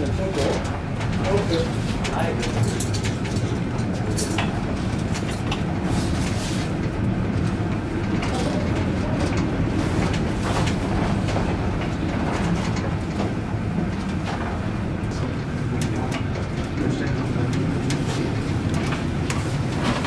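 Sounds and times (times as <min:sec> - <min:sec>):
wheels rumbling on rails: 0:00.0 - 0:20.0.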